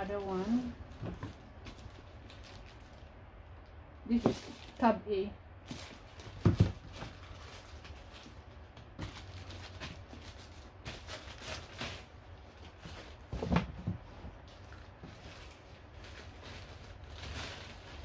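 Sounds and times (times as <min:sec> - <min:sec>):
plastic wrapping rustling: 0:00.0 - 0:05.0, 0:05.6 - 0:18.0.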